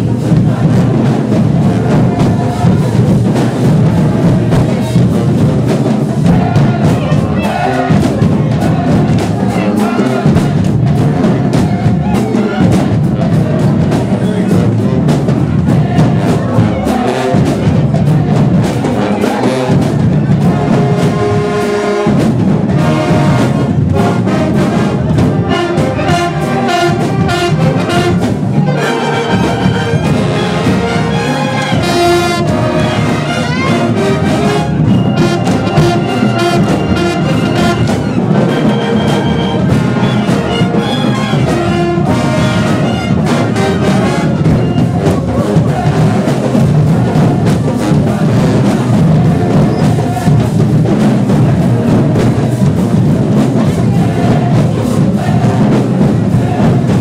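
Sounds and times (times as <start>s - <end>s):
brass instruments melody: 0.0s - 57.0s
drums: 0.0s - 57.0s
marching band playing: 0.0s - 57.0s.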